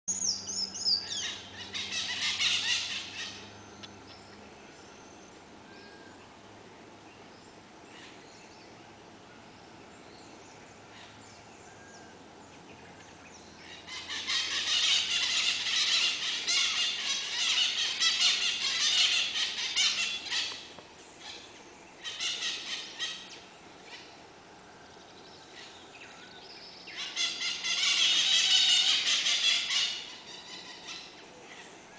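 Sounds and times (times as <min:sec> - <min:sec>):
birds screeching chatter: 0:00.1 - 0:06.3, 0:10.0 - 0:31.9.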